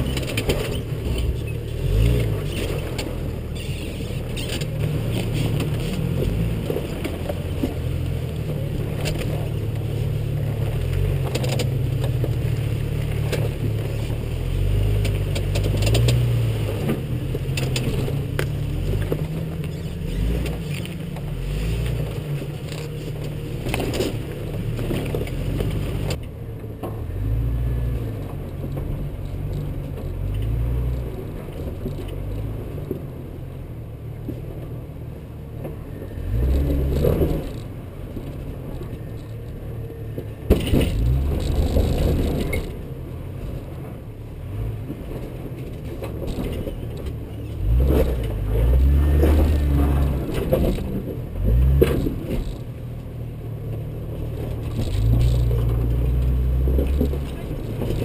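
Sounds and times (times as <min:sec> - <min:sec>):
engine crawling at low revs: 0:00.0 - 0:58.0.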